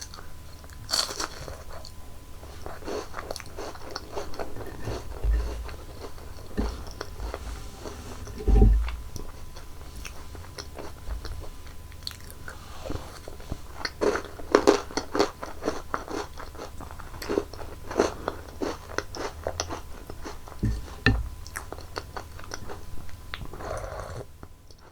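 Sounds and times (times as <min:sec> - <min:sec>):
crunching and chewing candies: 0:00.0 - 0:07.9, 0:08.8 - 0:24.9.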